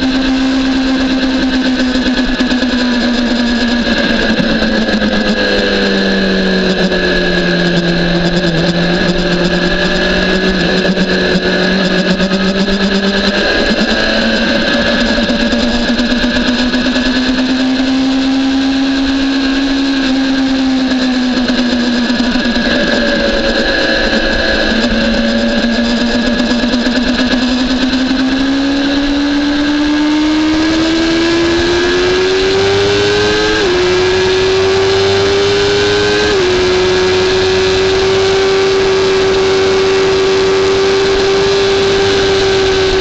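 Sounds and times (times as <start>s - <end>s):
motorcycle engine pulling hard: 0.0s - 43.0s.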